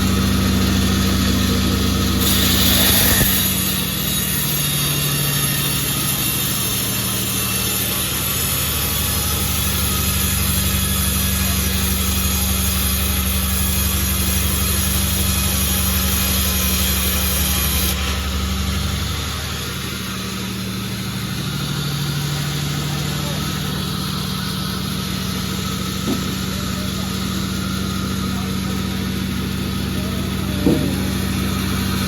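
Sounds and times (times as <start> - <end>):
sawmill engine hum: 0.0 - 32.0
saw blade hissing through wood: 2.0 - 32.0.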